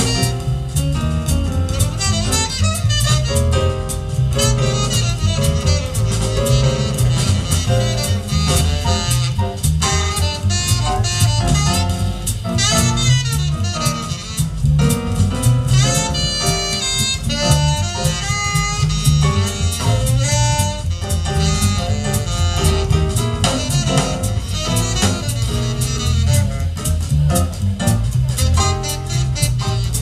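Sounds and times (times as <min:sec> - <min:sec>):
drum kit: 0:00.0 - 0:30.0
upright double bass: 0:00.0 - 0:30.0
saxophone melodic runs: 0:01.6 - 0:27.1, 0:28.3 - 0:30.0.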